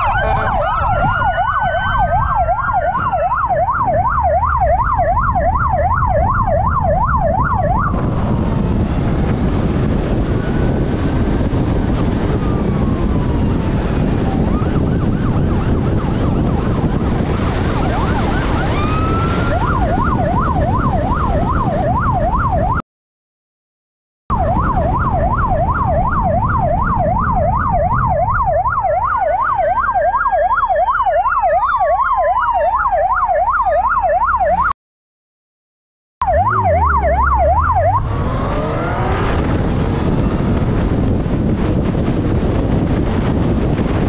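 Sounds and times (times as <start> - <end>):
police siren yelp and wail: 0.0 - 22.8, 24.3 - 34.8, 36.2 - 44.0
wind rush: 0.0 - 22.8, 24.3 - 29.8, 36.3 - 44.0.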